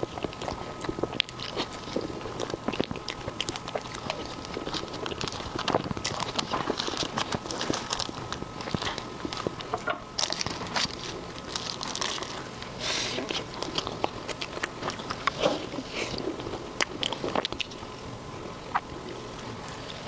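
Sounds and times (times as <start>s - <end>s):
biting and chewing crunches: 0.0s - 20.0s.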